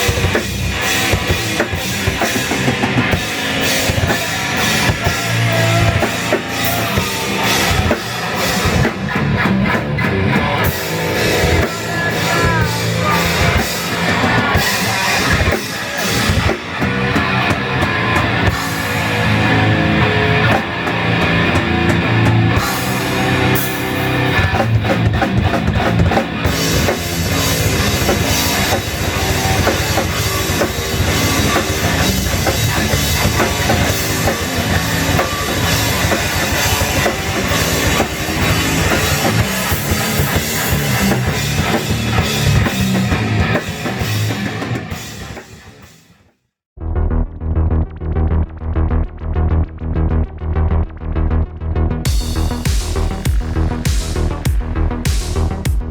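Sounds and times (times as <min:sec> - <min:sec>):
drum kit: 0:00.0 - 0:46.0, 0:52.1 - 0:55.9
heavy metal guitar: 0:00.0 - 0:46.2, 0:52.0 - 0:55.9.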